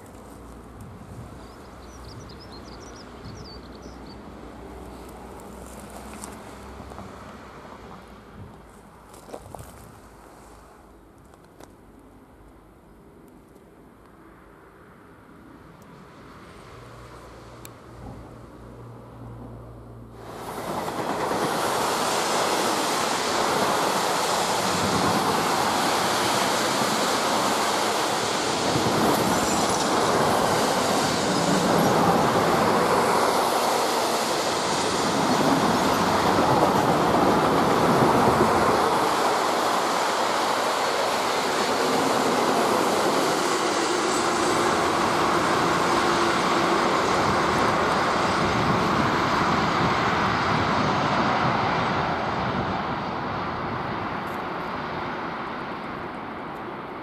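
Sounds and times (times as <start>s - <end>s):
freight train wheels on rail: 0.0s - 11.8s, 15.8s - 57.0s.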